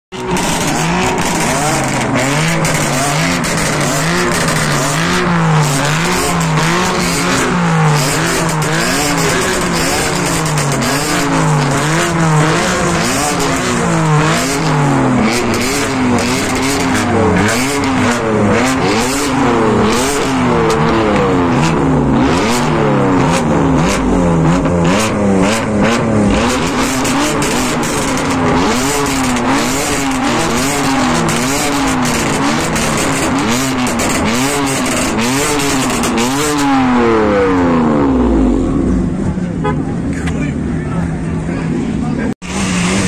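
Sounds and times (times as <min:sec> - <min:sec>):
car engines revving: 0:00.1 - 0:43.0.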